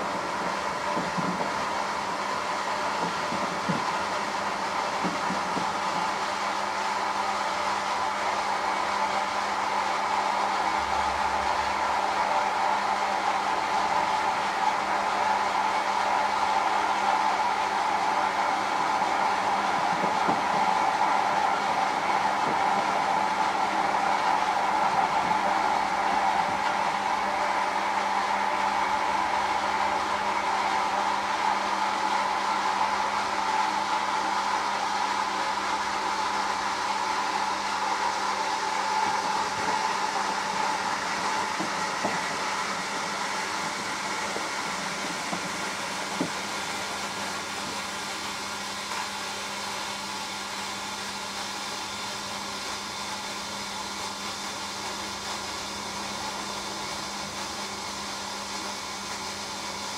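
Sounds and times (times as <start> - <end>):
washing machine running: 0.0 - 59.9.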